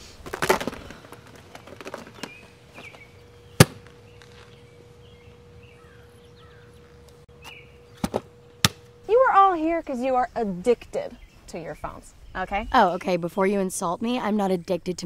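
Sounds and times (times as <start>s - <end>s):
birds chirping faintly: 0.8s - 15.0s.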